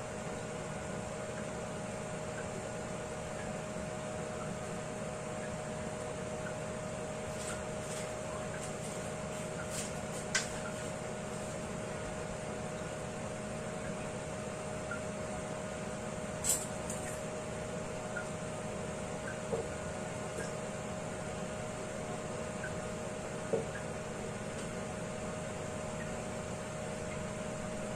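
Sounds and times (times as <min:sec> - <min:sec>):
fan hum: 0:00.0 - 0:27.9.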